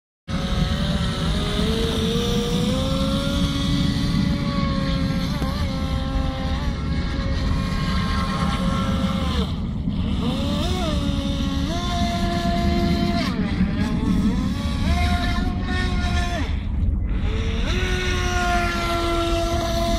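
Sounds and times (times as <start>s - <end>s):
low rumble: 0.3s - 19.9s
model speedboat motor whining: 0.3s - 19.9s.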